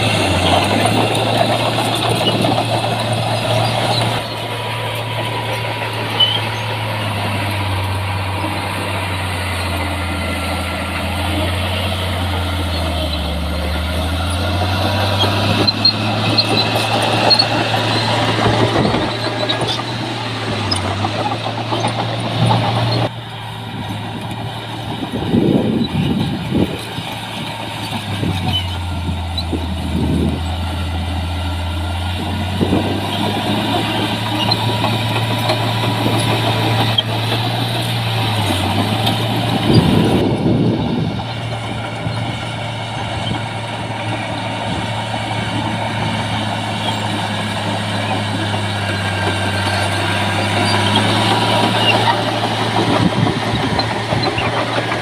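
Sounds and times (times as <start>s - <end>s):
earthmoving machinery diesel engines: 0.0s - 55.0s.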